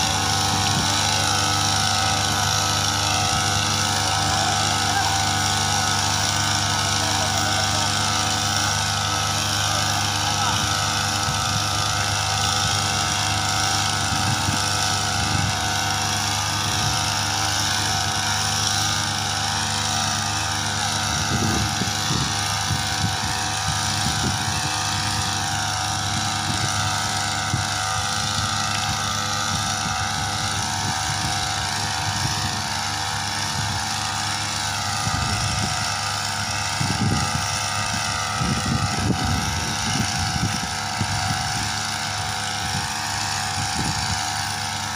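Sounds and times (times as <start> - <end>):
small petrol engine running: 0.0 - 44.9.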